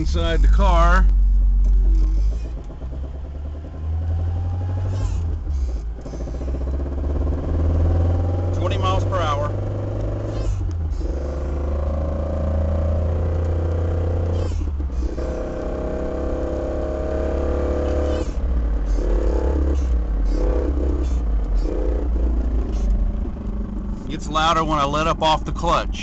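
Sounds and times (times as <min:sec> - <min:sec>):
car engine running: 0:00.0 - 0:26.0
humming from rear end: 0:00.0 - 0:26.0.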